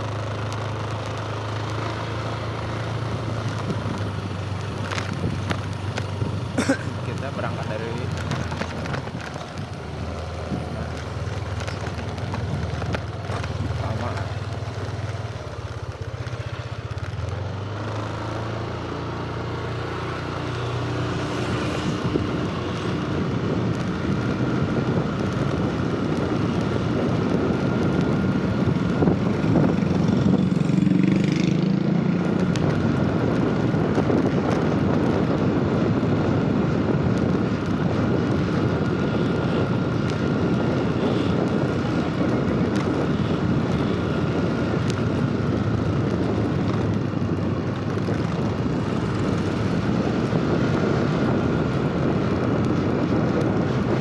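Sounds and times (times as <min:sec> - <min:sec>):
steady rushing noise: 0:00.0 - 0:54.0
vehicle engine running: 0:00.0 - 0:54.0.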